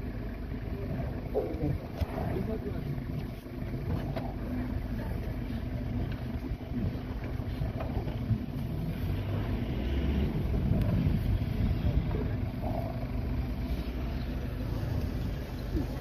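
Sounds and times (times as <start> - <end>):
lions growling and snarling: 0.4 - 16.0.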